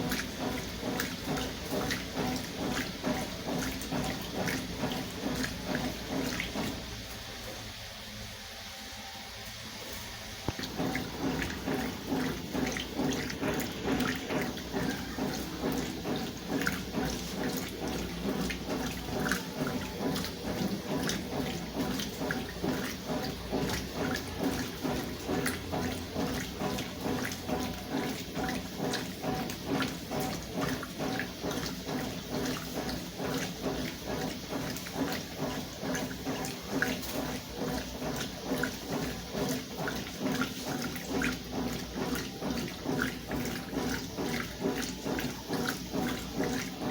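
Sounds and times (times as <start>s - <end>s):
washing machine water sloshing: 0.0s - 46.9s.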